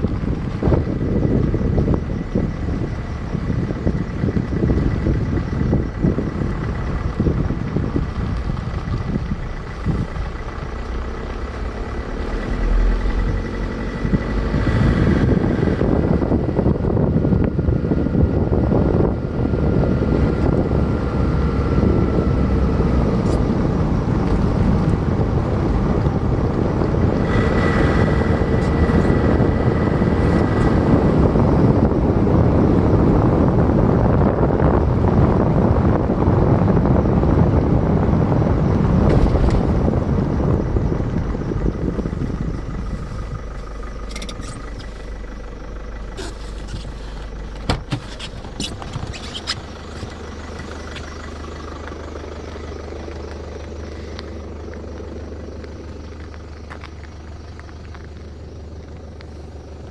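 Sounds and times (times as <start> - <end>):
road and engine noise: 0.0 - 59.9
wind: 0.0 - 59.9.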